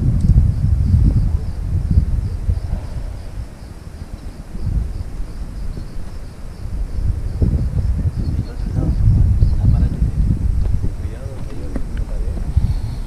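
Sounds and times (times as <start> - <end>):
low rumble: 0.0 - 11.1
insects chirping: 0.0 - 13.0.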